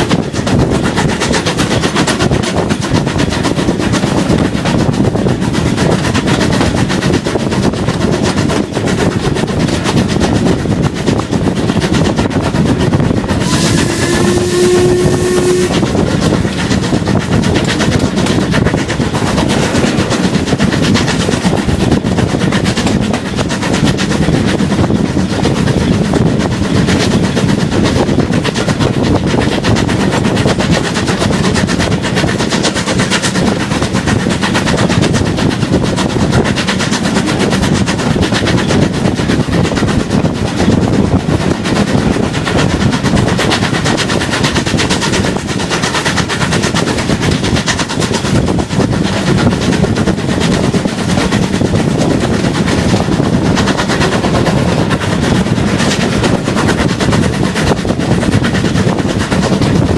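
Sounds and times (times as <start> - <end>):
steam train rattling at speed: 0.0 - 59.9.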